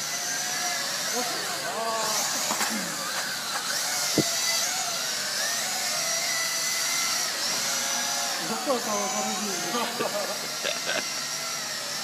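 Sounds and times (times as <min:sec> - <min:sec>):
quadcopter rotors whining: 0:00.0 - 0:12.0.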